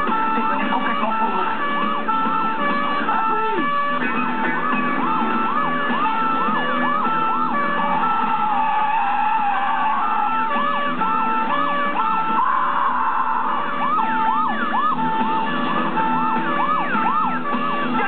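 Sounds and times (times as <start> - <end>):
sweeping police siren: 0.0 - 18.0
two-tone police siren: 0.0 - 18.0.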